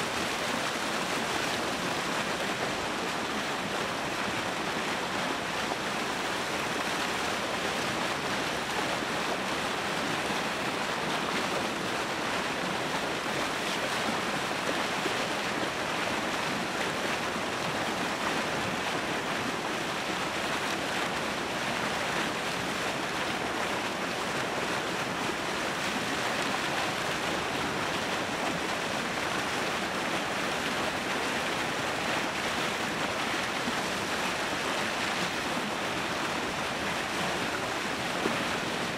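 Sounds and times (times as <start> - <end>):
water churning and splashing: 0.0 - 38.9.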